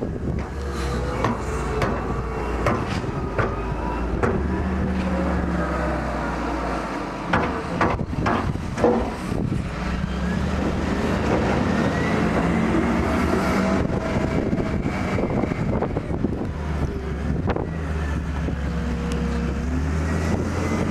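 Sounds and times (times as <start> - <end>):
vehicle engine humming: 0.0 - 20.9
wind gusting over microphone: 0.0 - 20.9.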